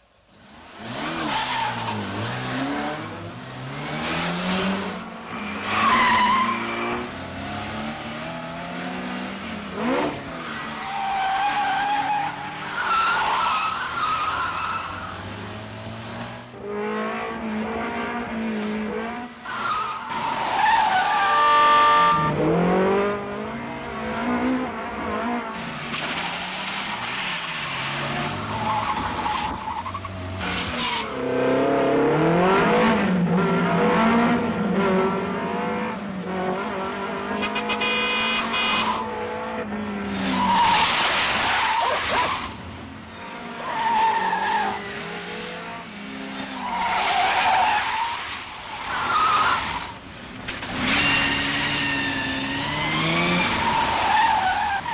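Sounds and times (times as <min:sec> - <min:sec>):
car engines revving: 0:00.3 - 0:54.9.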